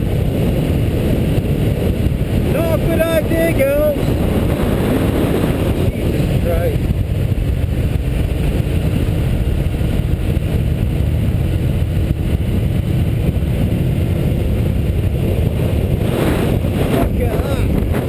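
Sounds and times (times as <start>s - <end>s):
wind rush and road noise: 0.0s - 18.0s.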